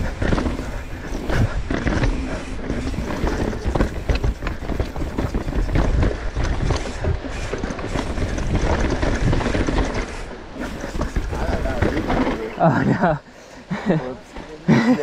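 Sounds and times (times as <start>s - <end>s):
bike knocks and rattles: 0.0s - 13.1s
bike tyres crunching over dirt: 0.0s - 13.2s.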